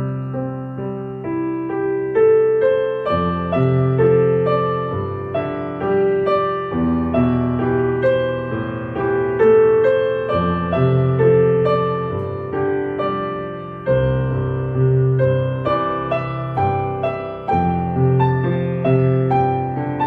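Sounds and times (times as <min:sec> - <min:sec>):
calm slow piano music: 0:00.0 - 0:20.0.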